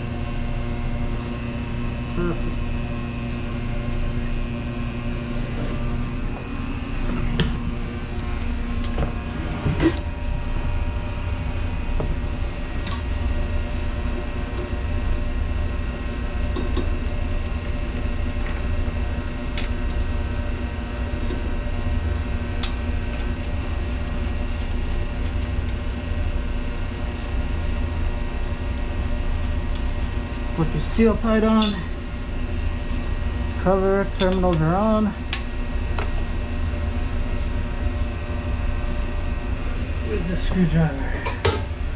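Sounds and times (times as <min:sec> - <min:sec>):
machinery hum: 0:00.0 - 0:41.9.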